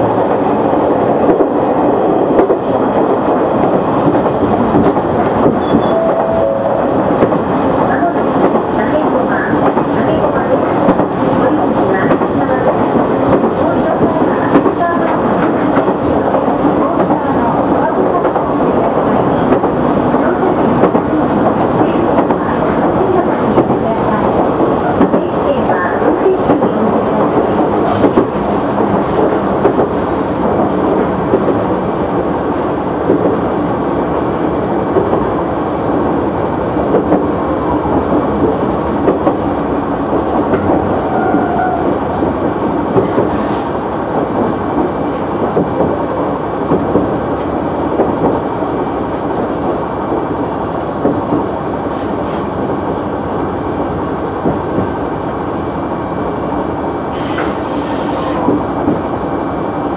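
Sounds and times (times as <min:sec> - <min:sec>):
train engine and wheels rumbling: 0:00.0 - 0:59.9.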